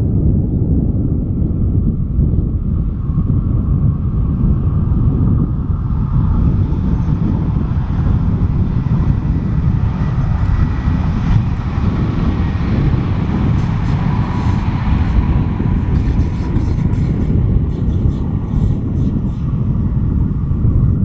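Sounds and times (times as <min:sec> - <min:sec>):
faint whine: 0:00.4 - 0:21.0
electric train rumbling past: 0:02.8 - 0:21.0.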